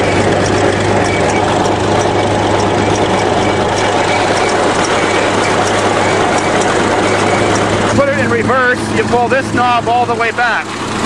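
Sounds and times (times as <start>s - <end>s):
bulldozer engine droning: 0.0s - 11.0s
tracks clinking: 0.0s - 11.0s.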